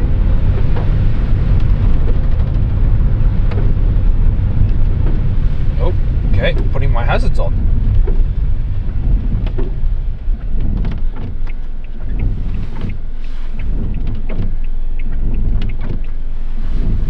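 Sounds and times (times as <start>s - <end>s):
light ticks on car: 0.0s - 5.4s, 7.8s - 17.0s
low rumble inside car: 0.0s - 17.0s.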